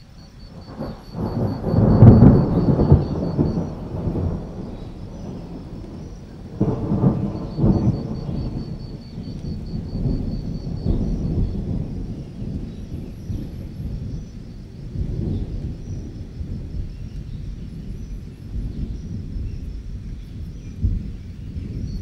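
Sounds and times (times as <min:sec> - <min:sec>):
crickets chirping: 0:00.0 - 0:22.0
rolling thunder: 0:00.2 - 0:22.0.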